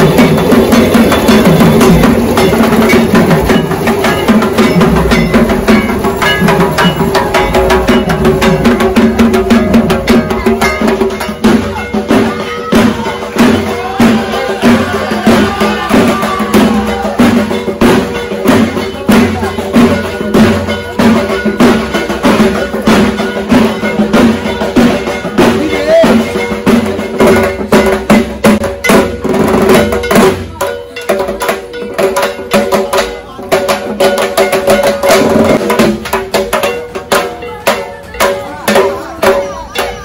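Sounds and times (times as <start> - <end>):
barrel drums beaten fast: 0.0 - 40.0.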